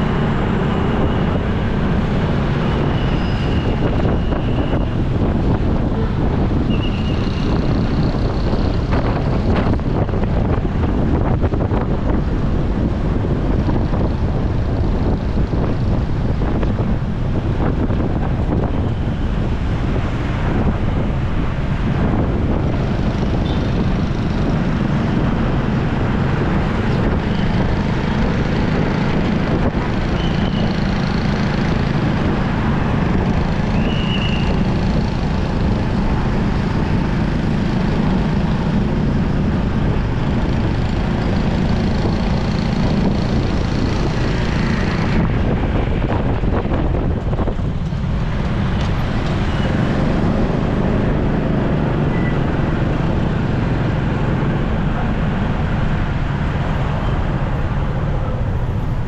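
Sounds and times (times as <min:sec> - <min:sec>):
motorcycle engine drone: 0:00.0 - 0:59.0
road noise: 0:00.0 - 0:59.0
traffic: 0:00.0 - 0:59.0
wind rush on microphone: 0:00.0 - 0:59.0.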